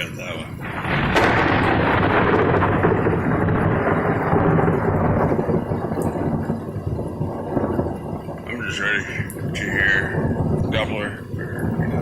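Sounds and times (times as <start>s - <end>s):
rolling thunder: 0.0s - 12.0s.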